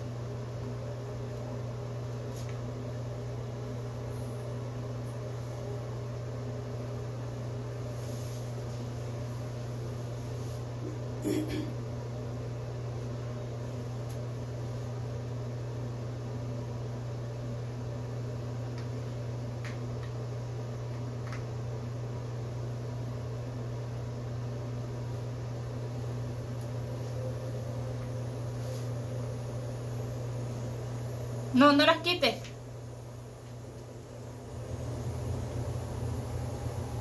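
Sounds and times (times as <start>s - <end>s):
low hum: 0.0s - 32.0s, 32.6s - 37.0s.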